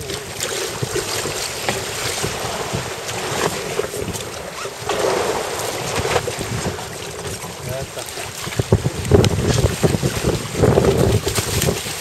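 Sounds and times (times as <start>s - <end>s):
water sloshing against hull: 0.0s - 12.0s
wind buffeting microphone: 0.0s - 12.0s.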